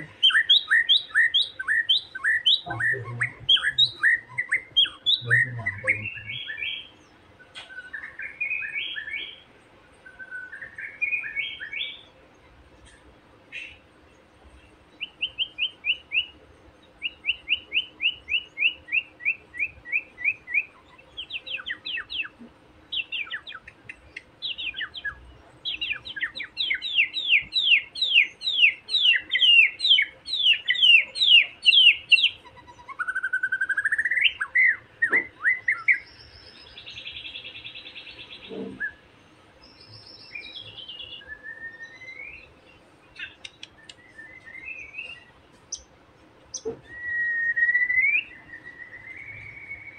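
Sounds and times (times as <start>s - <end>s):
bird whistled song: 0.2s - 9.4s, 10.0s - 12.0s, 15.0s - 16.4s, 17.0s - 39.0s, 39.6s - 42.5s, 43.2s - 45.9s, 46.5s - 49.9s.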